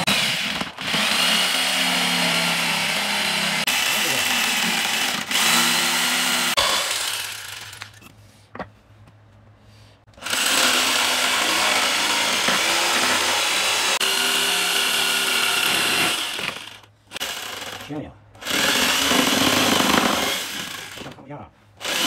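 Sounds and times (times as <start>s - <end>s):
electric jigsaw sawing wood: 0.0s - 8.0s, 10.2s - 21.2s, 21.8s - 22.0s.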